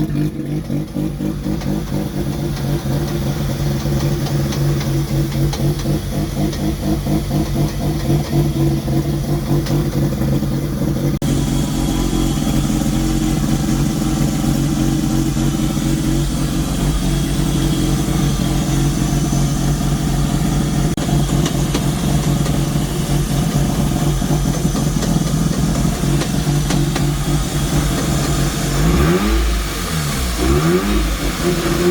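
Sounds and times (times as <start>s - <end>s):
rotary engine running: 0.0s - 31.9s.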